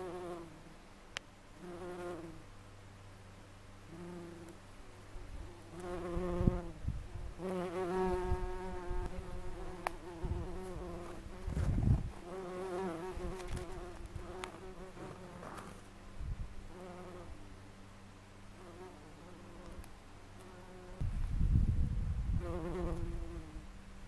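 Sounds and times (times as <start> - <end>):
bumblebee buzzing: 0.0 - 0.8, 1.6 - 2.5, 3.8 - 17.4, 18.5 - 21.6, 22.2 - 23.8.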